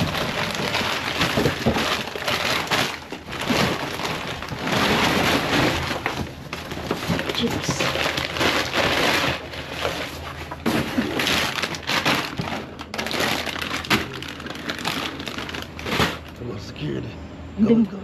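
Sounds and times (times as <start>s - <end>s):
cardboard rustling: 0.0s - 16.4s
plastic bags crinkling: 0.0s - 16.5s.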